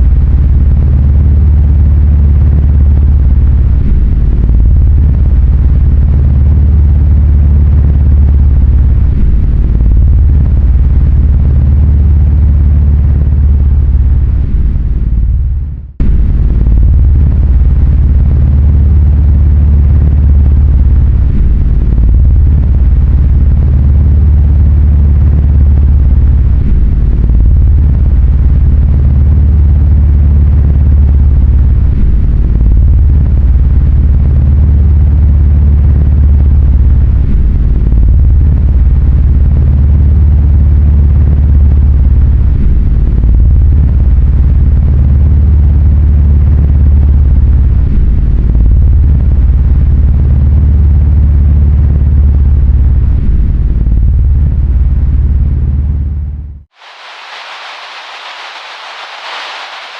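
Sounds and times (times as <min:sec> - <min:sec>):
deep rumbling drone: 0:00.0 - 0:59.9.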